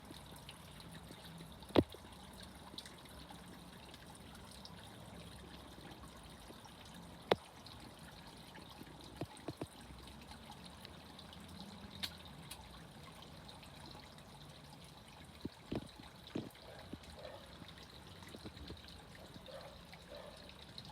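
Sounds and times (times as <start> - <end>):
fountain water trickling: 0.0 - 20.9.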